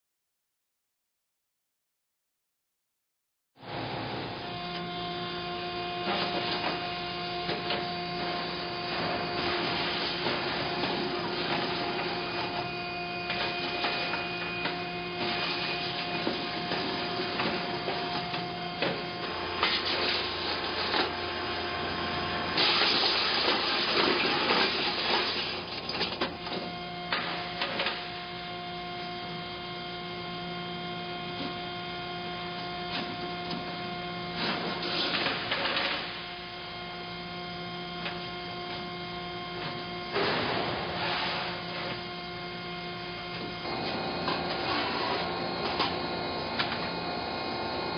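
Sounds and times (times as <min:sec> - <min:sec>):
machine electric hum: 0:03.6 - 0:47.9.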